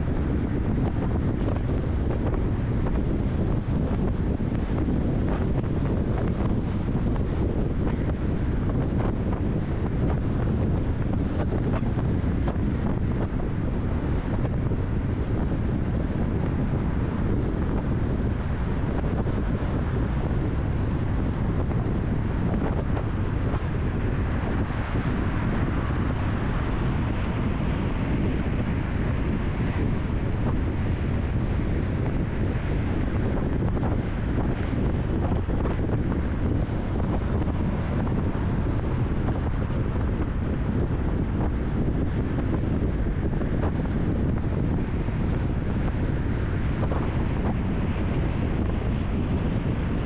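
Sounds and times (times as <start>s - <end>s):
car road noise: 0.0s - 50.0s
wind buffeting microphone: 0.0s - 50.0s.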